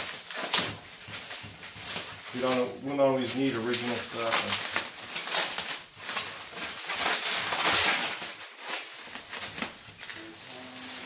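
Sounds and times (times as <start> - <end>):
plastic and bubble wrap crinkling: 0.0 - 11.0.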